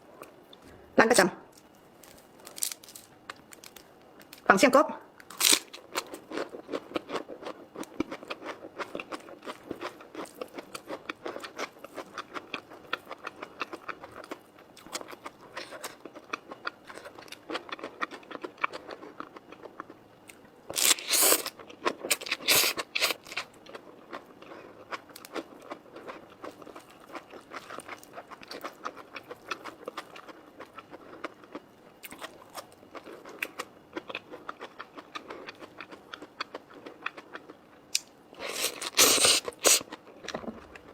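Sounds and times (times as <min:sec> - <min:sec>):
crunchy chewing: 0:01.5 - 0:04.5, 0:05.2 - 0:40.9.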